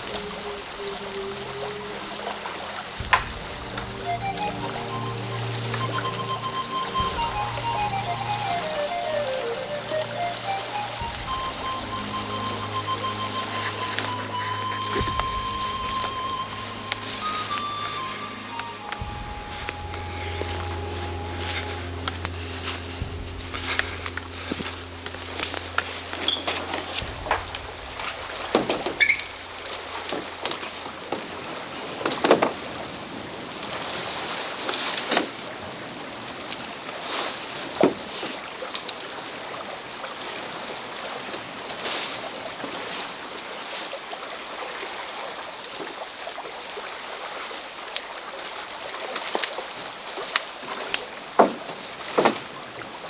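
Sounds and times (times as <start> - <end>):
steady wash of water: 0.0 - 53.0.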